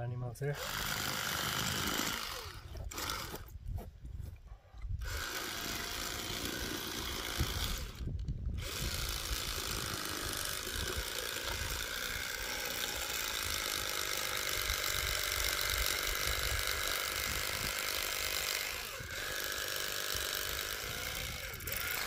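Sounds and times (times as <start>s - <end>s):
electric knife motor buzz: 0.6s - 3.5s, 5.0s - 22.0s.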